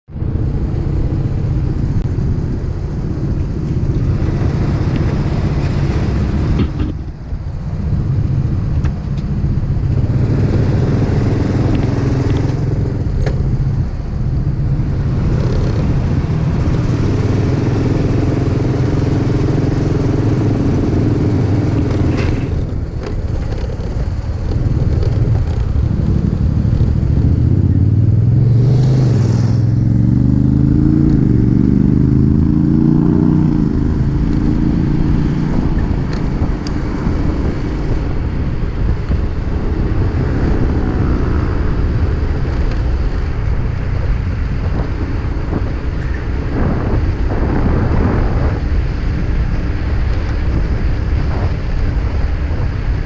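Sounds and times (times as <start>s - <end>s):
motorcycle engine running: 0.1s - 53.0s.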